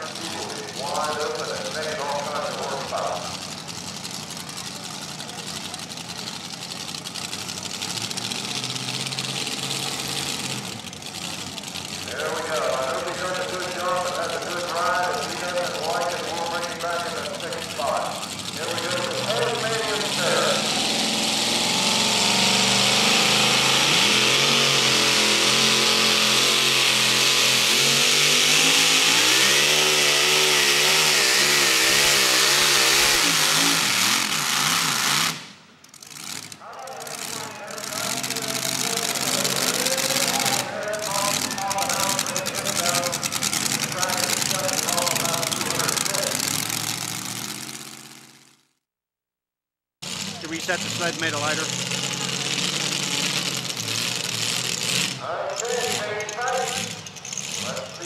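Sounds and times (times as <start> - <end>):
truck engine idling: 0.0 - 48.6, 50.0 - 58.0.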